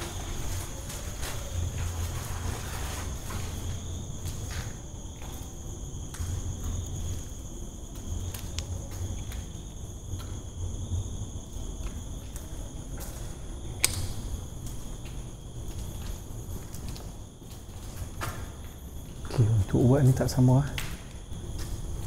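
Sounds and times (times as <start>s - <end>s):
footsteps: 0.0s - 10.5s, 11.5s - 13.6s, 14.3s - 20.2s, 20.8s - 22.0s
crickets trilling: 0.0s - 22.0s.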